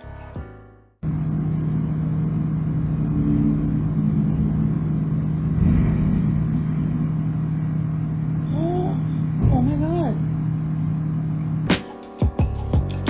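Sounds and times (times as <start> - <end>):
engine drone: 1.0 - 11.8.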